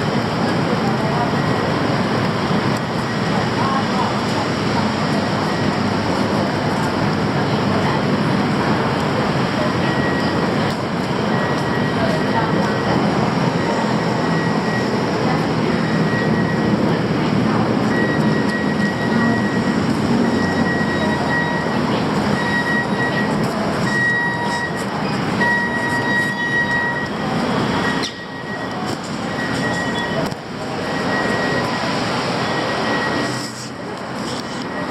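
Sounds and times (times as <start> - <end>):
heavy vehicles rumbling: 0.0 - 34.9.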